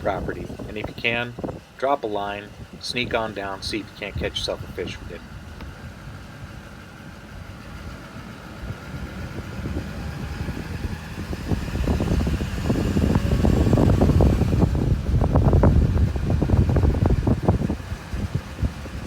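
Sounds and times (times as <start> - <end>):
wind buffeting the microphone: 0.0 - 19.0.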